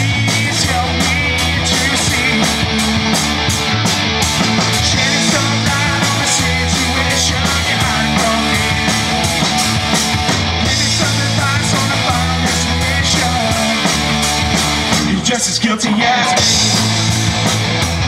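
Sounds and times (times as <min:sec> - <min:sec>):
bass guitar: 0:00.0 - 0:18.0
drum kit: 0:00.0 - 0:18.0
electric guitars: 0:00.0 - 0:18.0.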